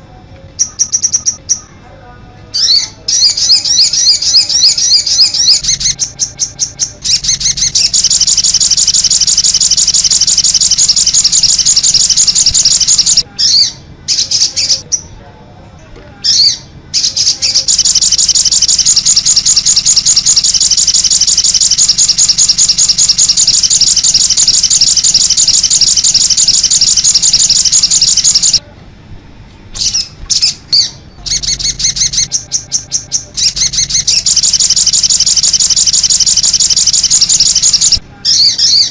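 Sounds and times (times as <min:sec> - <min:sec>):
bird calling in high chirps: 0:00.6 - 0:01.7, 0:02.6 - 0:15.0, 0:16.3 - 0:28.6, 0:29.8 - 0:38.9.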